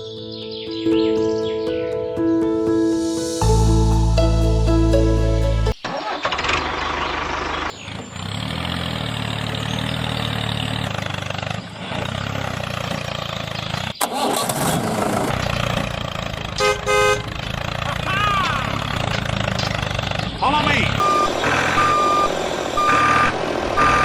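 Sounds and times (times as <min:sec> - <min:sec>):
vehicle engine running: 0:03.4 - 0:24.0.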